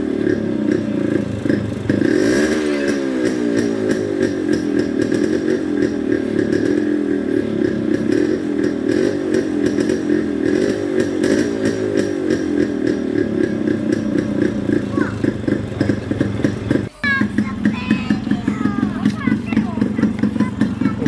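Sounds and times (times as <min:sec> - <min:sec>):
two-stroke engine idling: 0:00.0 - 0:21.0.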